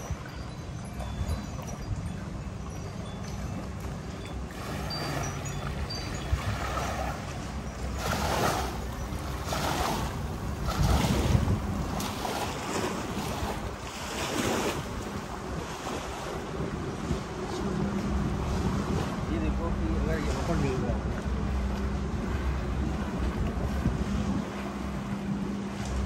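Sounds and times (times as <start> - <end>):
wind: 0.0 - 26.0
small waves washing: 3.5 - 26.0.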